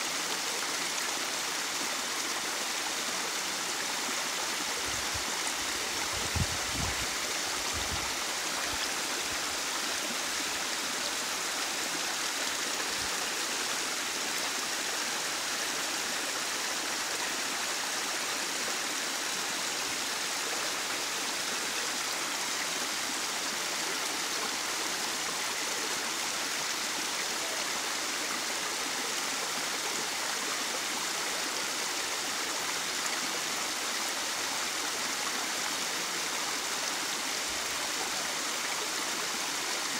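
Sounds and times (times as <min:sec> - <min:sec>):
small waterfall splashing over stones: 0:00.0 - 0:39.9.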